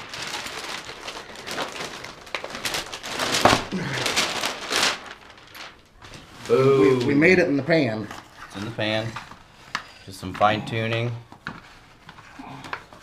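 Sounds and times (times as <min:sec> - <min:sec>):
paper and foil pan crinkling: 0:00.0 - 0:13.0.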